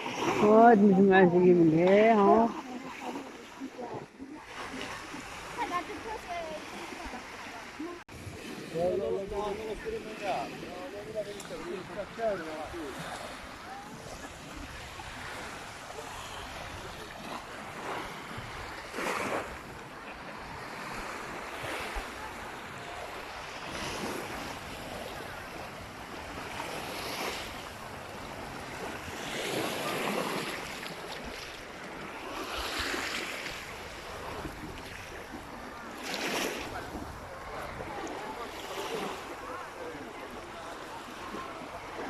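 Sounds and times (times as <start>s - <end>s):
sea waves breaking on shore: 0.0s - 42.0s.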